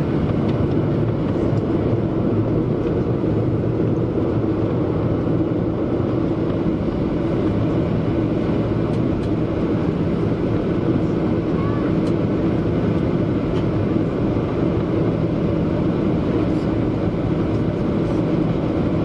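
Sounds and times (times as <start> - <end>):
jet cabin engine drone: 0.0 - 19.0.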